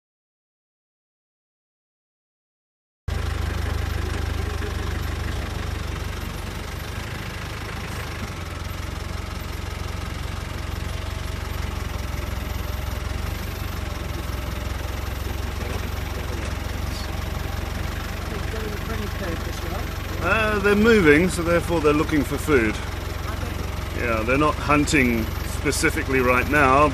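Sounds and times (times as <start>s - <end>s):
vehicle engine idling: 3.1s - 26.9s.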